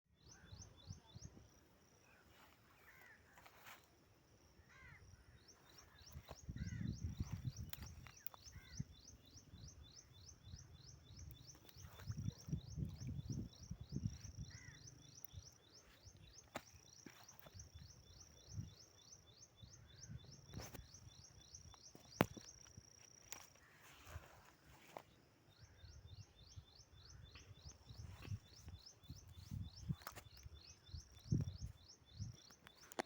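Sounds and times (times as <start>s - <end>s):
birds chirping: 0.1s - 33.0s.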